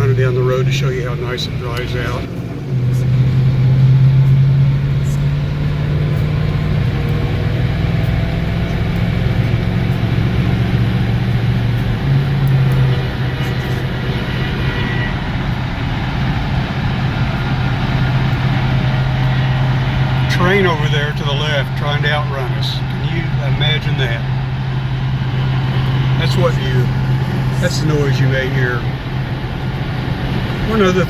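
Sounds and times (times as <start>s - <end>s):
car engine and road hum: 0.0s - 31.0s.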